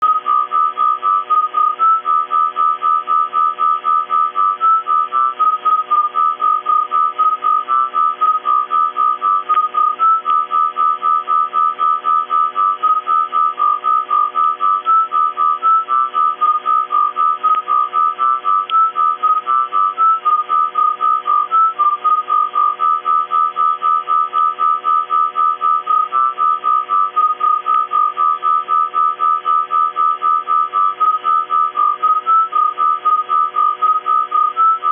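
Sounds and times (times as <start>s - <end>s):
electrical hum: 0.0s - 34.9s
pulsing whistling radio tone: 0.0s - 34.9s.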